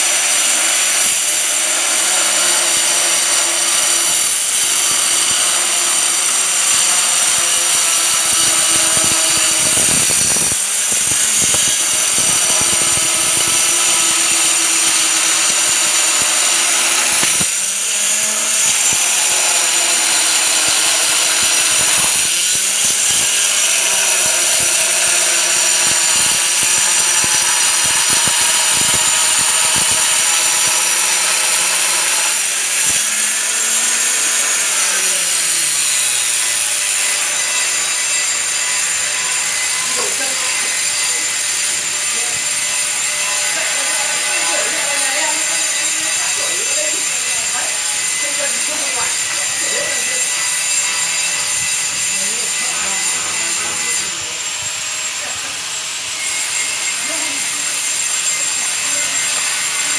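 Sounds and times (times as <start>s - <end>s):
stone-cutting saw whining: 0.0s - 59.9s.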